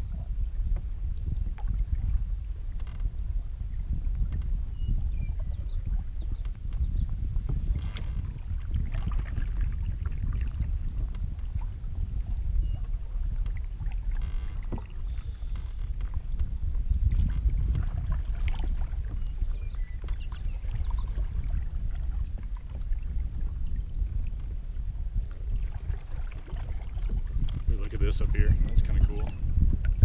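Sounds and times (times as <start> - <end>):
wind rumbling on microphone: 0.0 - 30.0
paddles knocking against hull: 3.8 - 30.0
paddles splashing in water: 5.4 - 30.0.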